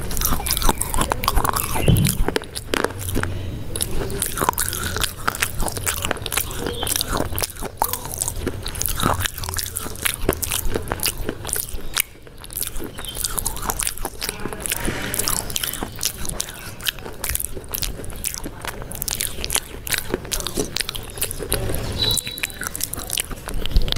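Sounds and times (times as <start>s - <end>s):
asmr mouth clicks and smacks: 0.0s - 23.9s.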